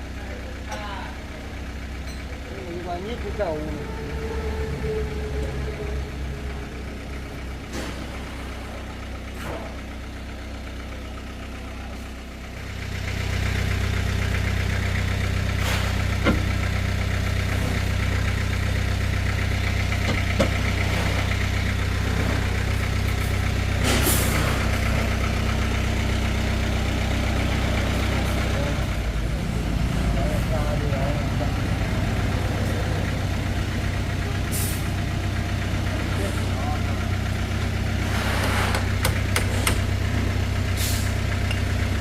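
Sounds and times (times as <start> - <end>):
vehicle engine idling: 0.0 - 42.0.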